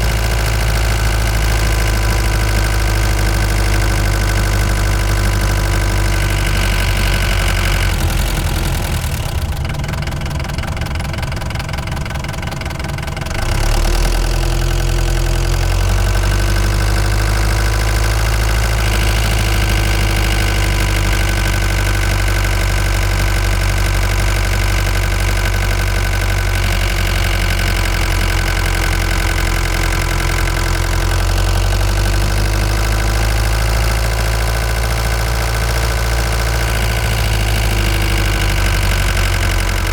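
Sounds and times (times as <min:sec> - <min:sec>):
van engine running: 0:00.0 - 0:39.9.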